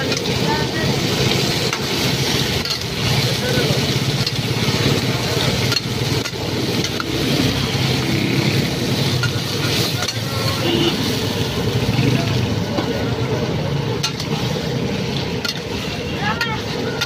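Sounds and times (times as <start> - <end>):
meat sizzling in a pan: 0.0 - 16.8.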